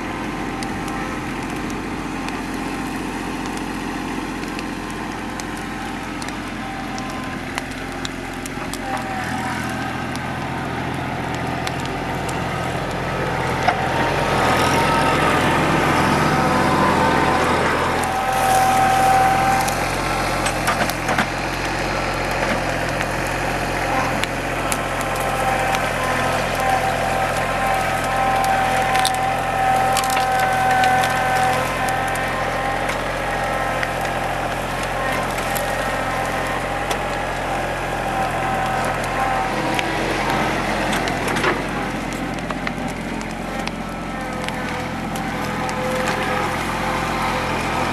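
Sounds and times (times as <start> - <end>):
wood creaking and snapping: 0.0 - 14.8, 15.4 - 47.7
tractor diesel engine running: 0.0 - 47.9.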